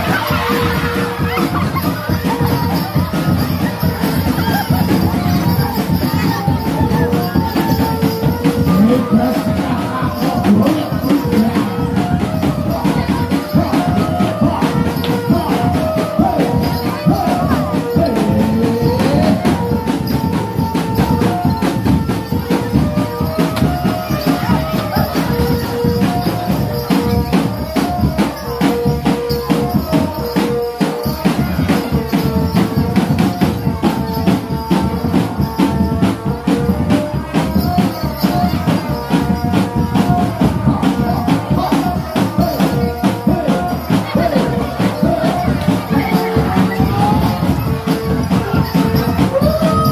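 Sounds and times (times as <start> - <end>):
fast dense percussion: 0.0 - 49.9.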